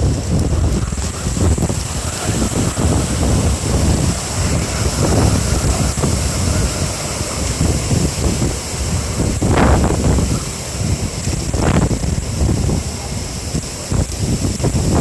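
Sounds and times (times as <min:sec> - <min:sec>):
strong gusty wind buffeting microphone: 0:00.0 - 0:15.0.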